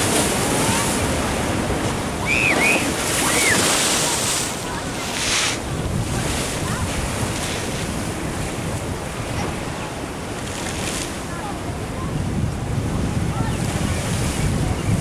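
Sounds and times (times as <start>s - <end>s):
ocean surf washing: 0.0s - 15.0s
wind on microphone: 0.0s - 15.0s.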